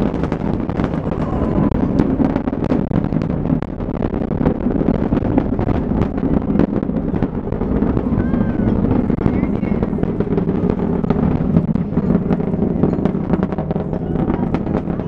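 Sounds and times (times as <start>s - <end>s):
rocket engines rumbling and crackling: 0.0s - 15.0s.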